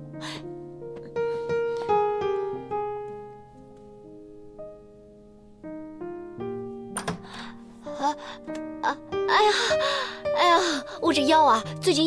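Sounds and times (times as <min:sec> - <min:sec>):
piano notes: 0:00.0 - 0:12.0.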